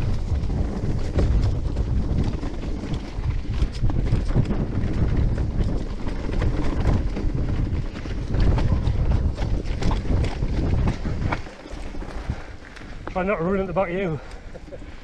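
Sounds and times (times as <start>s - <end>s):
bike rattling over roots and rocks: 0.0s - 15.0s
wind buffeting microphone: 0.0s - 15.0s.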